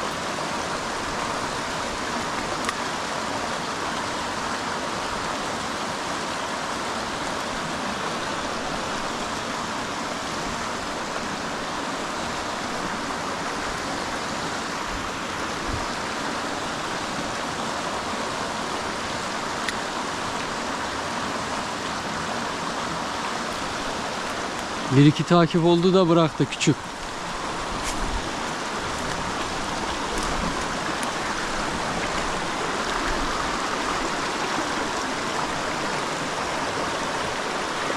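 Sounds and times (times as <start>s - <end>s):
stream water running: 0.0s - 37.9s.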